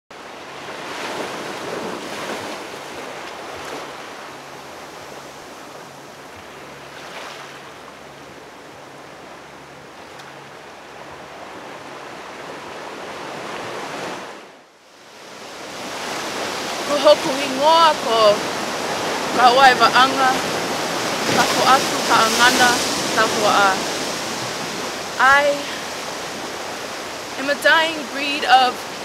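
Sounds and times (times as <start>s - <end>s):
ocean surf washing between rocks: 0.2s - 29.0s.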